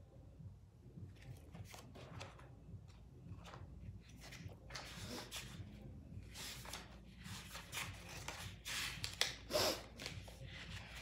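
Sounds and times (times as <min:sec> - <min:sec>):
pages flipping: 0:01.2 - 0:11.0.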